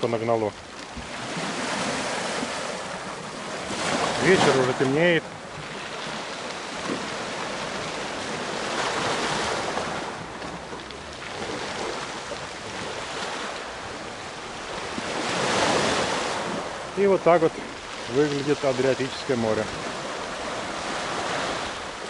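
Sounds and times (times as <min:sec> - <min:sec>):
waves washing against rocks: 0:00.0 - 0:22.0.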